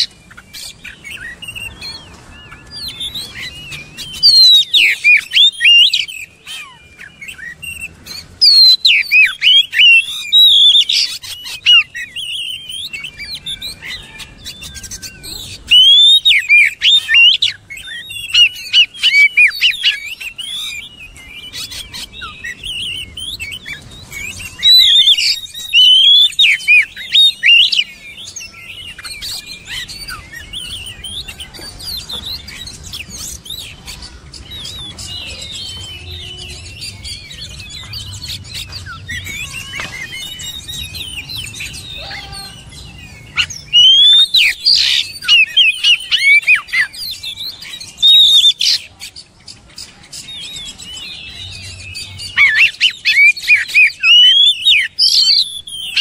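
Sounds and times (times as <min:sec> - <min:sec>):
bird singing varied song: 0:00.0 - 0:56.0.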